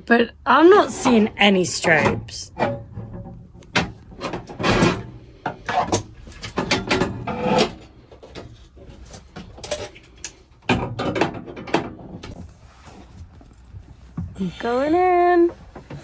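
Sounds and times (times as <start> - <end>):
knocks and scrapes against wood: 0.9 - 14.6.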